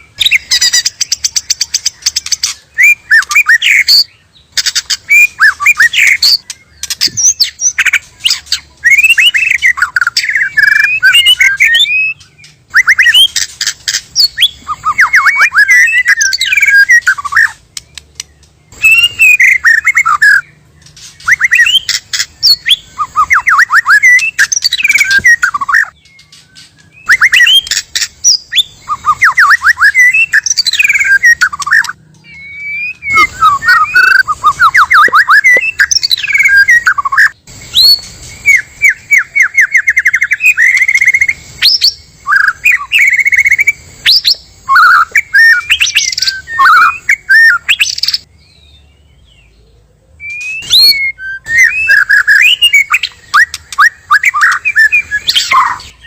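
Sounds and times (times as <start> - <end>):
songbird singing varied phrases: 0.0 - 56.0.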